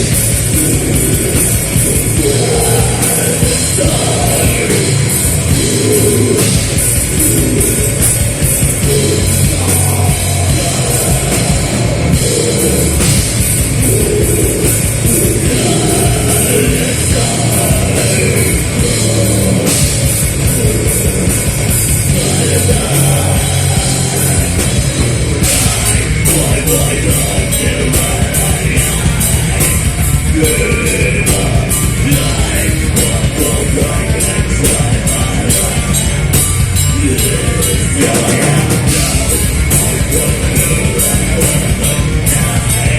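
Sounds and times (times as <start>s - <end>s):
bass guitar: 0.0s - 42.9s
distorted electric guitars: 0.0s - 42.9s
drum kit: 0.0s - 42.9s.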